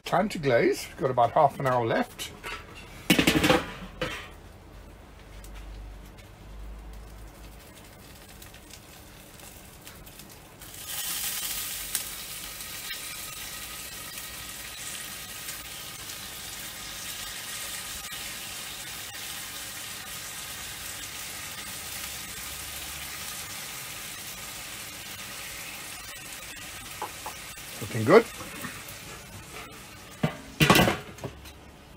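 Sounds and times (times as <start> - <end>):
glaze sizzling on grill: 0.4 - 31.9.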